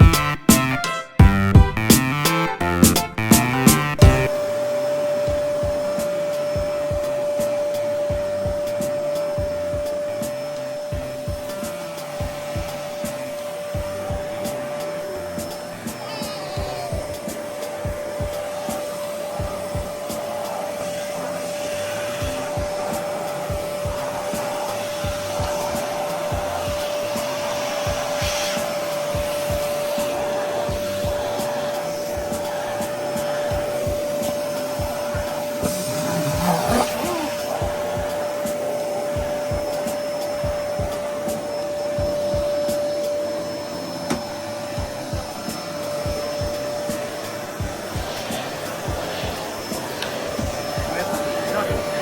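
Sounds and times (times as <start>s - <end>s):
vacuum cleaner whine: 0.0s - 52.0s
hiss of rushing air: 4.1s - 52.0s.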